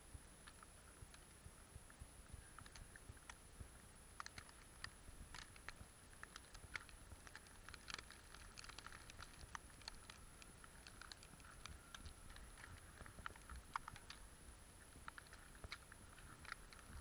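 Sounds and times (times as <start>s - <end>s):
faint high hiss: 0.0s - 17.0s
light ticks and crackles: 0.0s - 17.0s.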